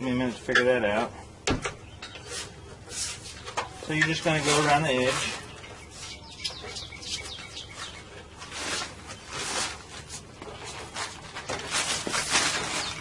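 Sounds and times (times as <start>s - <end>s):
small birds chirping: 0.0s - 10.0s, 12.4s - 13.0s.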